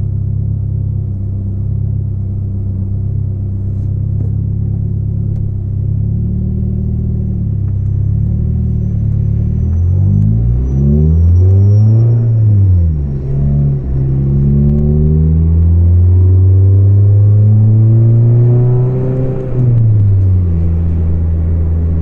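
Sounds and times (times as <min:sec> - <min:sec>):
car engine rumbling through leaking exhaust: 0:00.0 - 0:17.8, 0:19.5 - 0:22.0.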